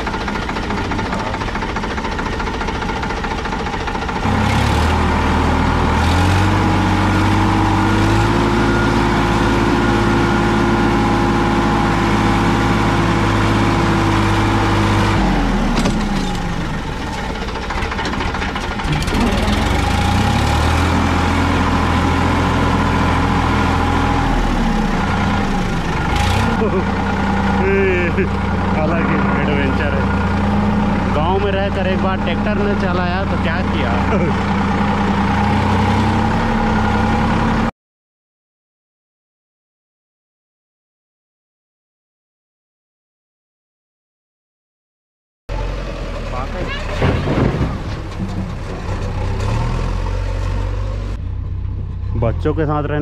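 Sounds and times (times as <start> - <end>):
tractor diesel engine revving: 0.0 - 37.7, 45.5 - 53.0.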